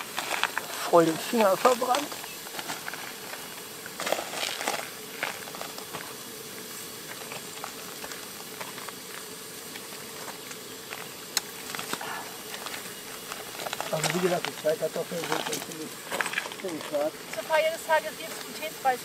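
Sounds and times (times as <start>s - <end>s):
fire pops: 0.0s - 6.2s, 7.0s - 17.4s
campfire crackling and hissing: 0.0s - 19.0s.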